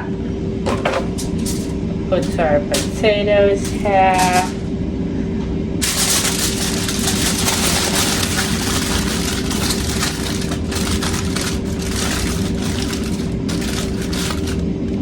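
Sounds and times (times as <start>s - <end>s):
air fryer fan humming: 0.0s - 15.0s
aluminium foil rustling: 1.0s - 4.7s, 5.8s - 15.0s.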